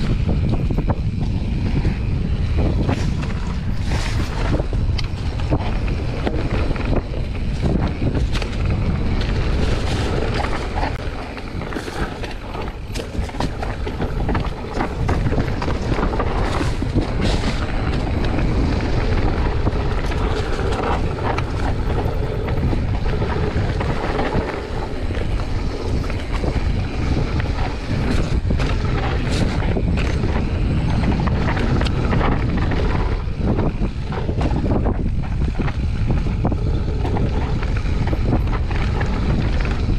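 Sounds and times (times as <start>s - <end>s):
bike clicking and rattling: 0.0s - 39.9s
wind buffeting microphone: 0.0s - 39.9s.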